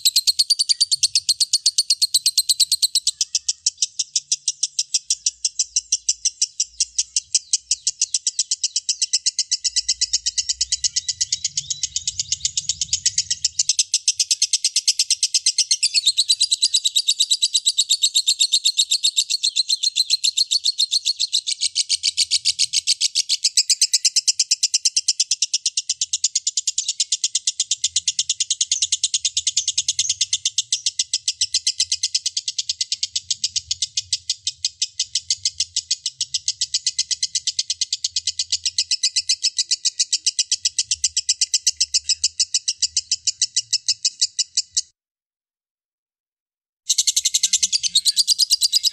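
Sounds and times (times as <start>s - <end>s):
bird chattering high chirps: 0.0s - 44.9s, 46.9s - 48.9s.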